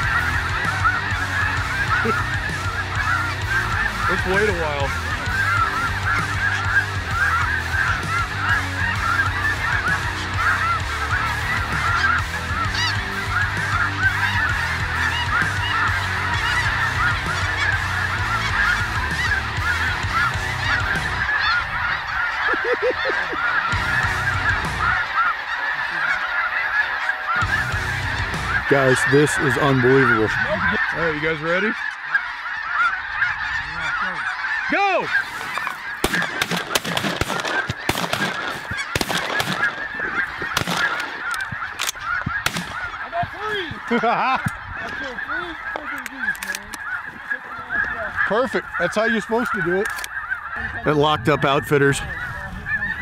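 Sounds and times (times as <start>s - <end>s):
geese honking: 0.0s - 53.0s.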